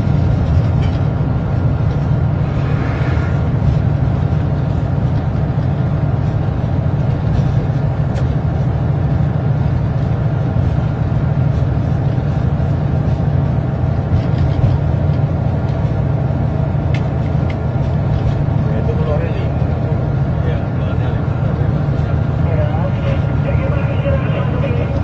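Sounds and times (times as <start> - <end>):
train rumble from cab: 0.0 - 25.0.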